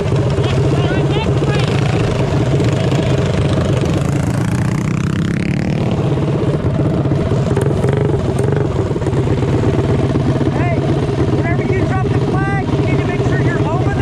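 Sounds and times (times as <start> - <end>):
minibike engines racing: 0.0 - 14.0.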